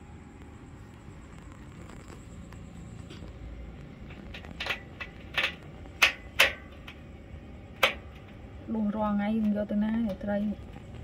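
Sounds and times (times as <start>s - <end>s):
faint steady background: 0.0s - 11.0s.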